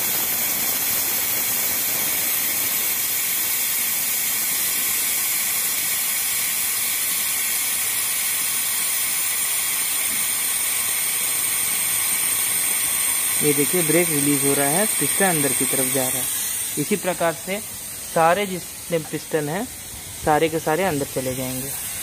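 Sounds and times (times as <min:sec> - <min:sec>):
compressed air hissing: 0:00.0 - 0:22.0.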